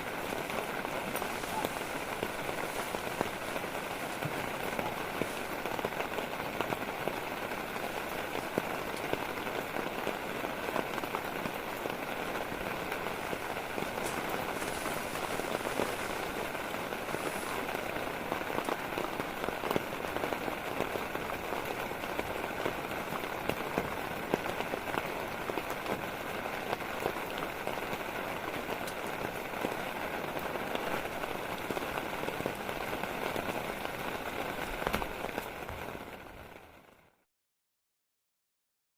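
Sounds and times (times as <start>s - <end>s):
heavy rain falling: 0.0s - 37.2s.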